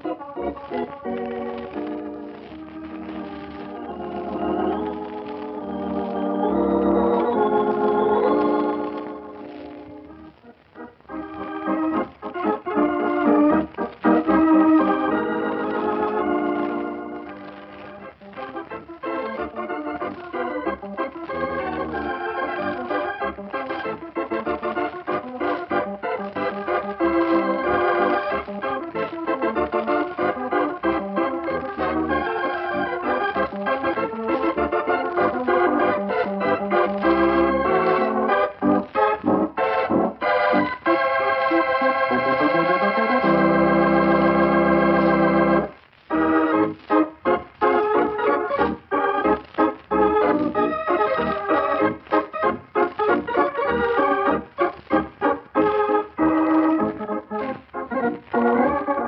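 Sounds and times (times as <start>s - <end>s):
organ chords: 0.0s - 59.0s.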